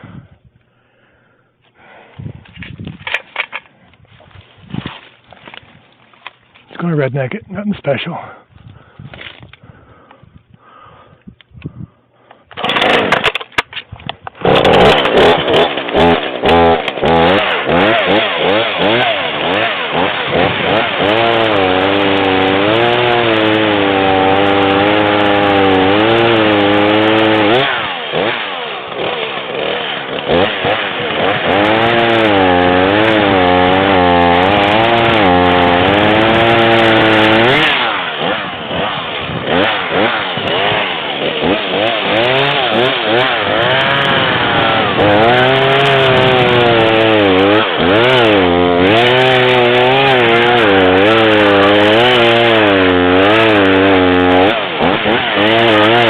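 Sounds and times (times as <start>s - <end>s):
chainsaw cutting wood: 2.5s - 6.7s, 12.3s - 56.0s.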